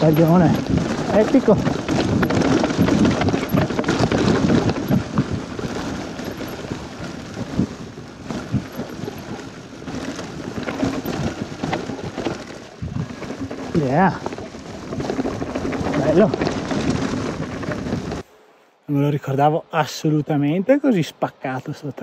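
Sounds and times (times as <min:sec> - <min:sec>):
mountain bike rattling over rocks: 0:00.0 - 0:18.2
wind rushing over microphone: 0:00.0 - 0:18.3.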